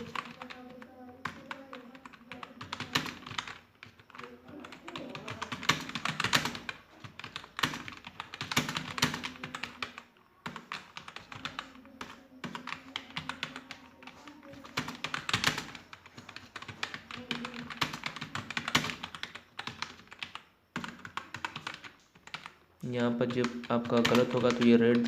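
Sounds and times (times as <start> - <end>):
typing on computer keyboard: 0.0 - 25.0.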